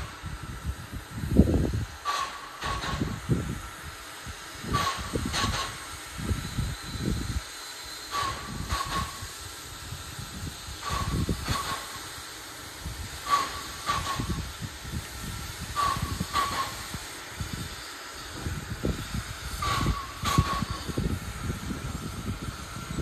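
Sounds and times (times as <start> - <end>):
steam locomotive hissing chuffs: 0.0 - 23.0.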